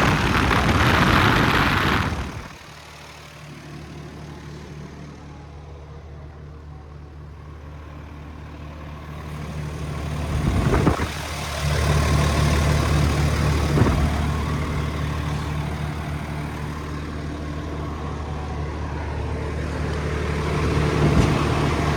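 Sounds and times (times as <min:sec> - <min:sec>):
diesel truck engine running: 0:00.0 - 0:21.9.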